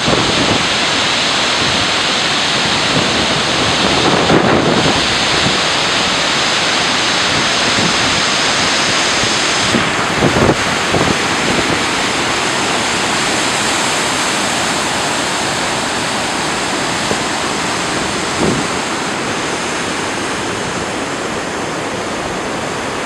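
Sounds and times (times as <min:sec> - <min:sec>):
river rushing through rapids: 0:00.0 - 0:23.0.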